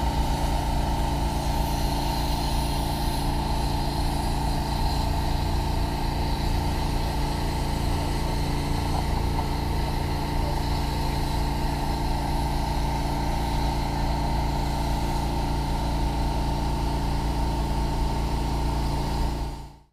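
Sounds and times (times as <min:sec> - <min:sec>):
machinery humming: 0:00.0 - 0:19.4.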